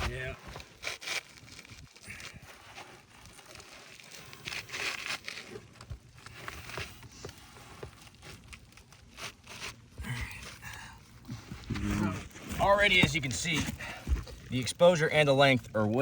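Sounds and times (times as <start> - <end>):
gritty shingle scraping and rustling: 0.0 - 16.0.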